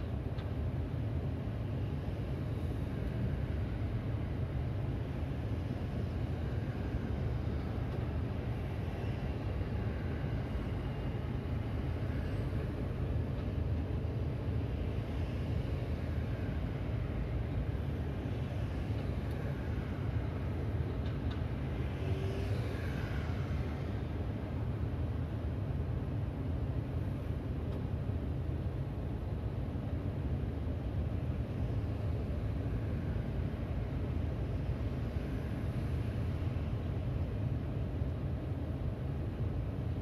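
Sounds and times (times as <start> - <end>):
city traffic rumble: 0.0 - 40.0.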